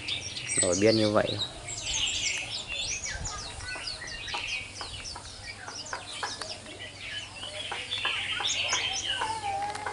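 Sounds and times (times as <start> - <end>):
bird twittering song: 0.0 - 9.9.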